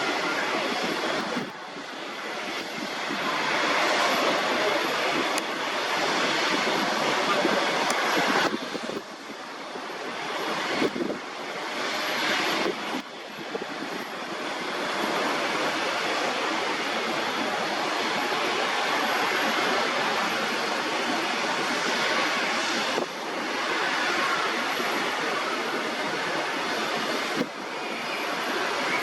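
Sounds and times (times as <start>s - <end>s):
propeller airliner engines droning: 0.0s - 29.0s.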